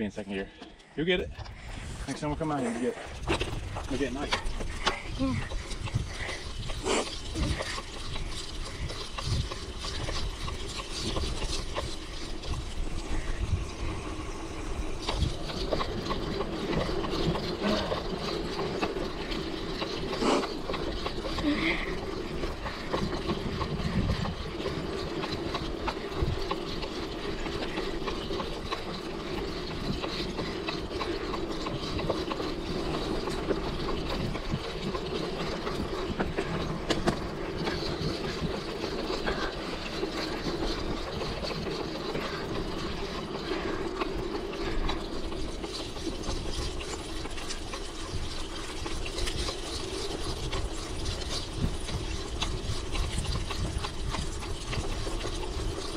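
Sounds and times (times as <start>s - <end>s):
bike chain rattling and ticking: 0.0s - 55.9s
bike tyre noise on dirt: 0.0s - 55.9s.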